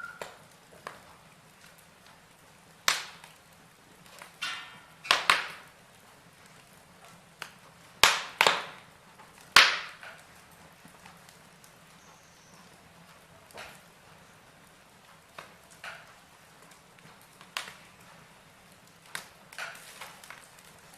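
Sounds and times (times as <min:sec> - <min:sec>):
logs crackling in fireplace: 0:00.0 - 0:20.9
low steady hiss: 0:00.0 - 0:20.9.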